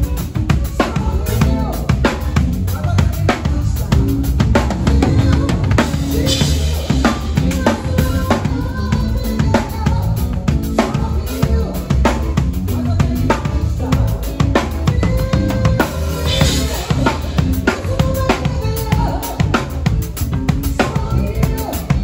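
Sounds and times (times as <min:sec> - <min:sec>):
band playing live: 0:00.0 - 0:22.0
drum kit with rimshots: 0:00.0 - 0:22.0.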